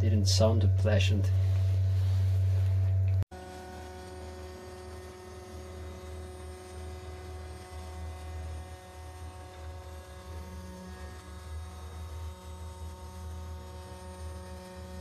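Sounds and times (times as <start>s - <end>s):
low wavering hum: 0.0s - 15.0s
router spindle whine: 0.0s - 15.0s.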